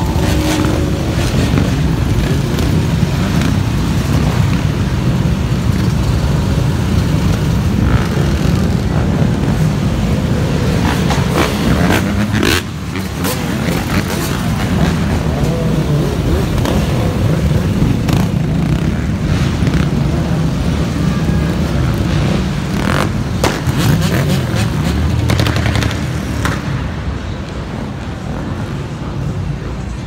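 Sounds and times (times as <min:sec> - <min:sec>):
motorcycles rumbling and revving: 0:00.0 - 0:30.0.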